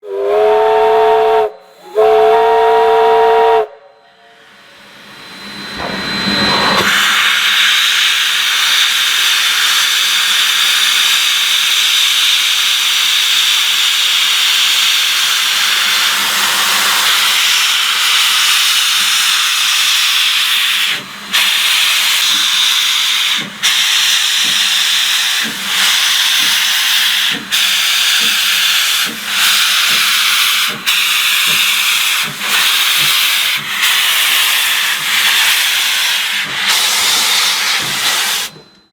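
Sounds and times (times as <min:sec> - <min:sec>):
steam locomotive hissing steam: 0:00.0 - 0:38.8
steam engine chuffing beat: 0:04.9 - 0:38.9.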